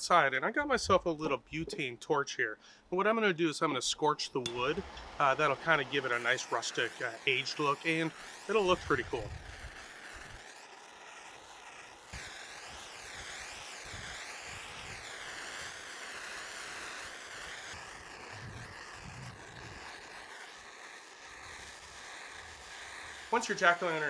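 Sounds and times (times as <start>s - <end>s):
torch flame hissing: 4.3s - 24.0s.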